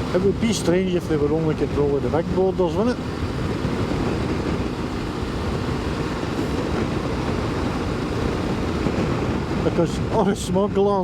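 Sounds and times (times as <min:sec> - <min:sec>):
motorcycle engine running: 0:00.0 - 0:10.8
wind and road noise: 0:00.0 - 0:11.0.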